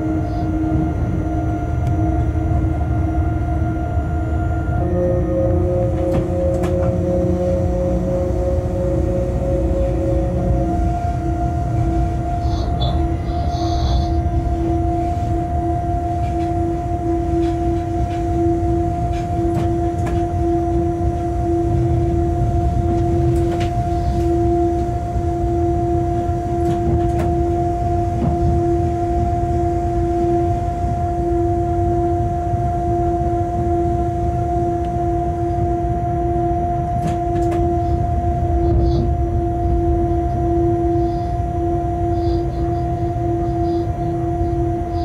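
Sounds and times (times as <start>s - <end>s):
two-note machine hum: 0.0s - 45.0s
wheels rumbling on track: 0.0s - 45.0s.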